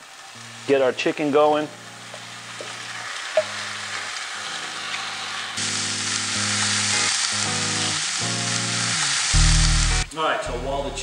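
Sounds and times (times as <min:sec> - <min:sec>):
chicken frying in a skillet: 0:00.0 - 0:10.1
background music with low notes: 0:00.4 - 0:11.0.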